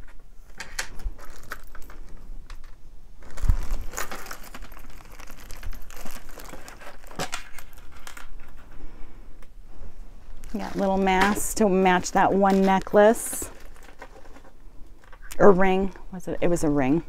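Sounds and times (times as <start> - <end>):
crinkling: 0.0 - 15.4.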